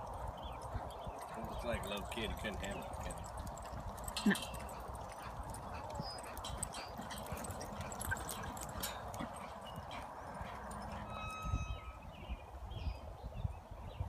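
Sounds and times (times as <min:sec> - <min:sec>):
horse hooves thudding on dirt: 0:00.0 - 0:12.0.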